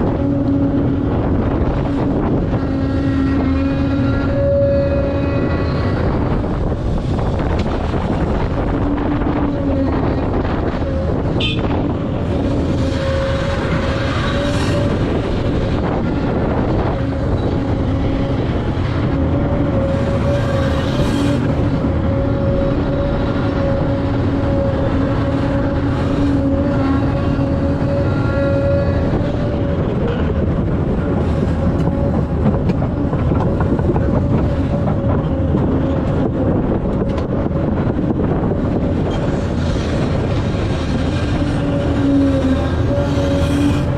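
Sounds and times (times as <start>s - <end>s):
heavy diesel machinery drone: 0.0s - 43.9s.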